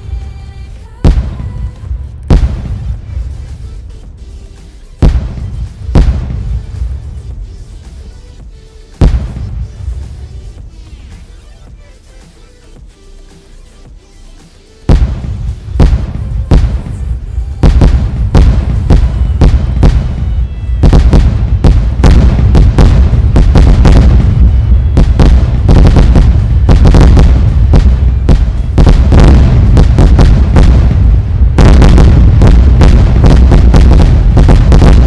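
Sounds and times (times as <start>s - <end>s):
deep rumble of fireworks: 0.0s - 13.0s, 14.8s - 35.0s
fireworks bangs and cracks: 0.0s - 13.0s, 14.8s - 35.0s.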